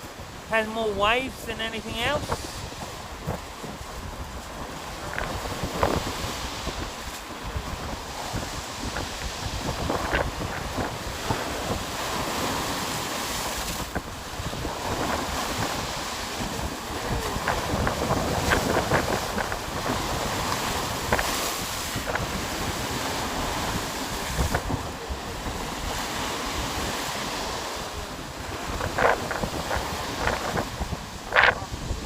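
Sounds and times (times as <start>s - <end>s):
waves breaking against seafront: 0.0s - 32.0s
wind buffeting microphone: 0.0s - 32.0s.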